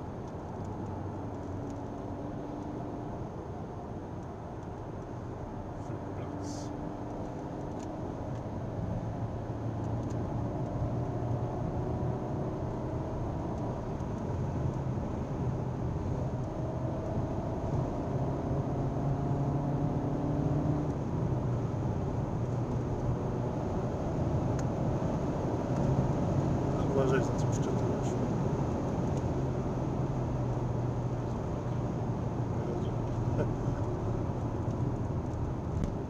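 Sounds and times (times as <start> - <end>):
car engine accelerating: 5.8 - 36.0.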